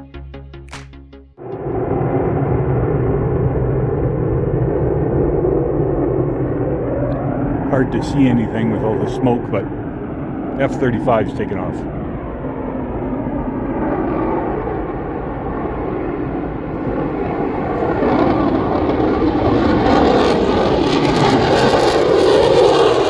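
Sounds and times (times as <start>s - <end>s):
jet engine roar: 1.4s - 23.0s.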